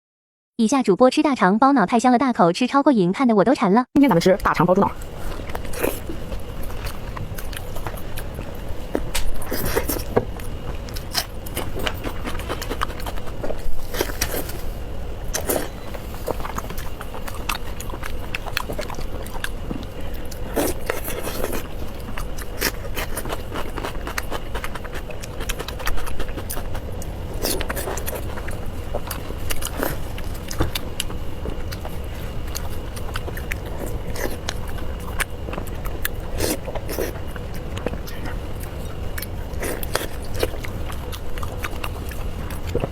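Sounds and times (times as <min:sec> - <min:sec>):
steady low hum: 0:03.9 - 0:42.9
person chewing and lip-smacking: 0:04.0 - 0:14.6, 0:15.2 - 0:42.9.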